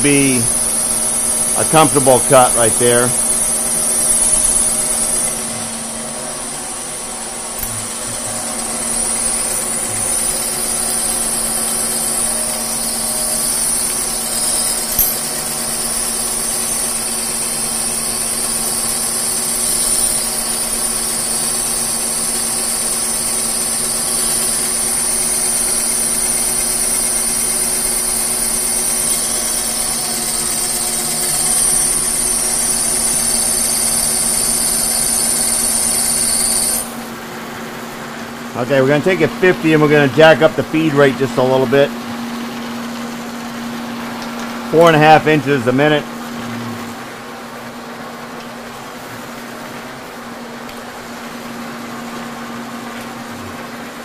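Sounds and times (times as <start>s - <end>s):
high whine with cutting hiss: 0.0s - 49.4s
machine hum: 0.0s - 54.0s.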